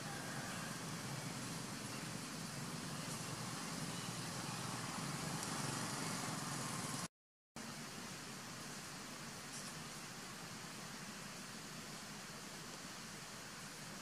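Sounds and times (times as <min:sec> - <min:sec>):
even hiss: 0:00.0 - 0:14.0.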